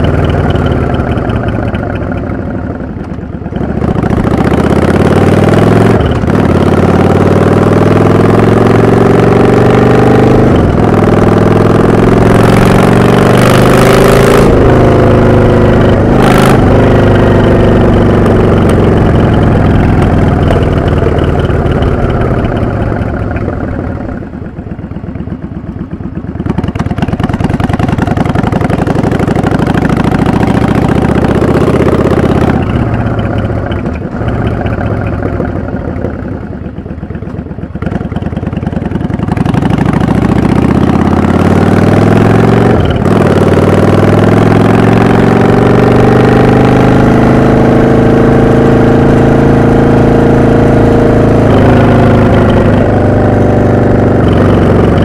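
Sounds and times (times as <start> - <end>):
motorcycle exhaust accelerating: 0.0 - 55.0.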